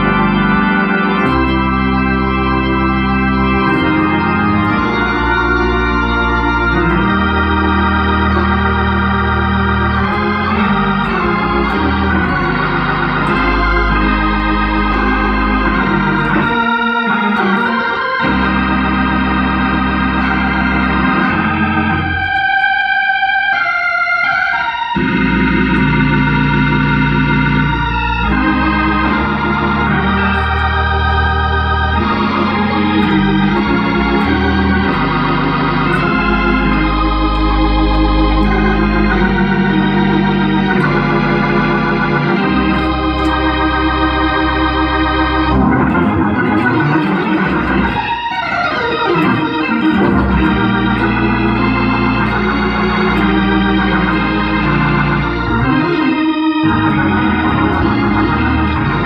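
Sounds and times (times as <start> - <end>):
gospel organ chords: 0.0 - 59.0
low organ bass line: 0.0 - 59.0.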